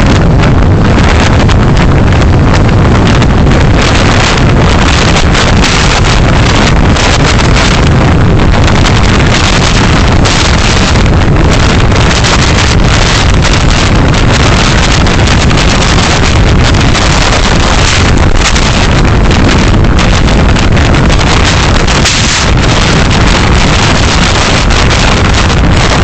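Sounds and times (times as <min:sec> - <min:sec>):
car road noise: 0:00.0 - 0:26.0
wind noise: 0:00.0 - 0:26.0.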